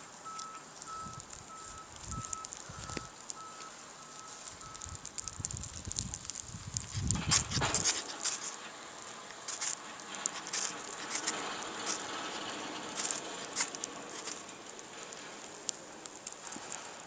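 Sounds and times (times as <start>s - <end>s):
faint steady hiss: 0.0s - 17.0s
fire crackling and popping: 0.0s - 17.0s.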